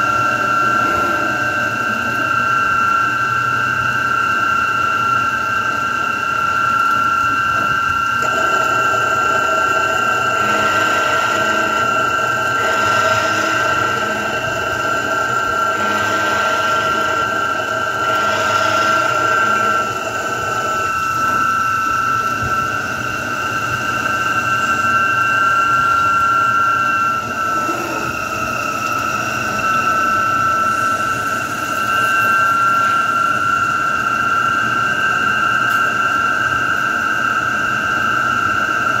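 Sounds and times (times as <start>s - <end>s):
lathe whining: 0.0s - 39.0s.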